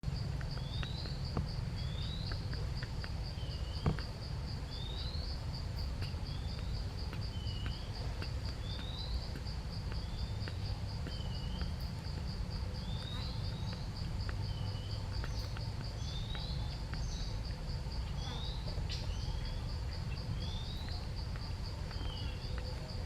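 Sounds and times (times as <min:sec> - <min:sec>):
insects trilling: 0:00.1 - 0:23.0.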